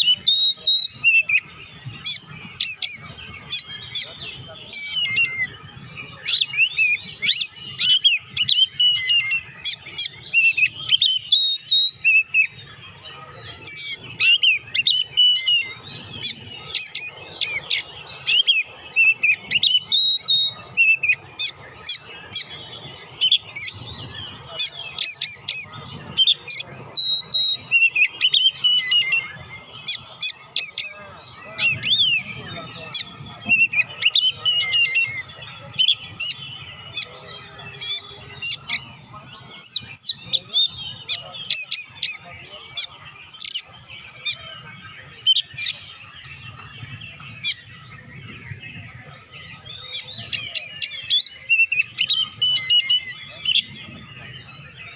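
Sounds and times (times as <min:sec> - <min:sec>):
bird singing: 0:00.0 - 0:54.9.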